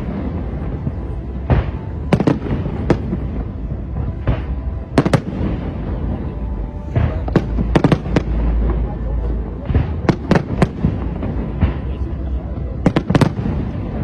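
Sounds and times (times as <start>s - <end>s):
fireworks bangs and pops: 0.0s - 14.0s
steady low rumble: 0.0s - 14.0s.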